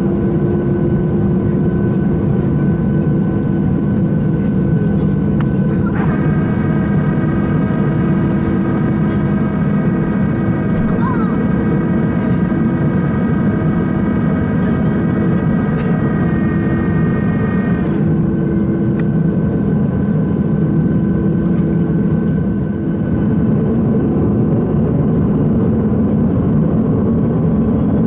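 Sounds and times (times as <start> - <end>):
jet engine rumble: 0.0 - 28.0
jet engine whine: 0.0 - 28.0.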